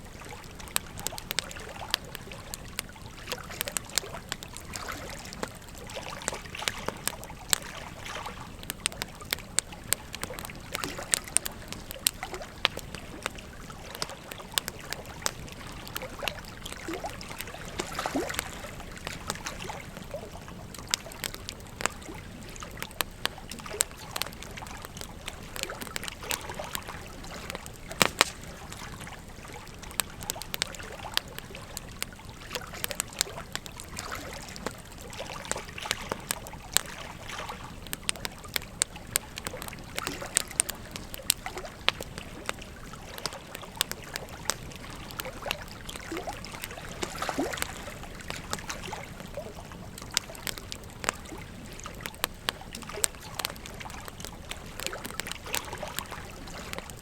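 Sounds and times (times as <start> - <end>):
flowing river water: 0.0 - 57.0
wood fire crackling and popping: 0.0 - 57.0.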